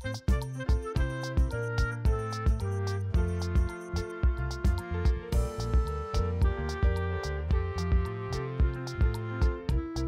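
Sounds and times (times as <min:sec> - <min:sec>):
background music with steady beat: 0:00.0 - 0:10.0
held instrumental notes: 0:00.0 - 0:10.0.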